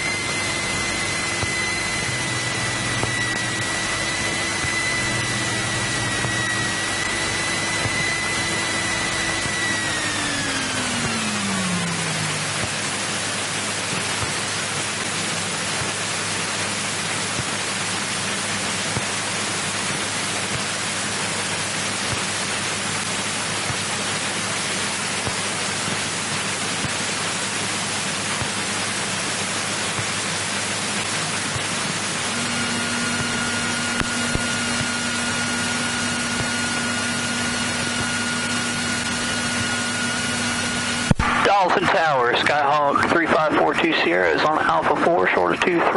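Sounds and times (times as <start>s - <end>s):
airplane engine drone in cabin: 0.0s - 45.9s
thin high whine: 0.0s - 45.9s.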